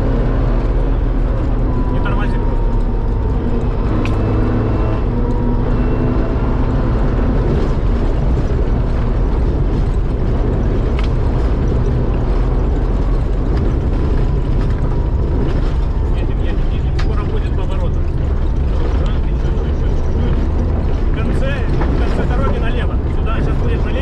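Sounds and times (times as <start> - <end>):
car engine drone: 0.0 - 24.0
tyres rumbling on rough ground: 0.0 - 24.0.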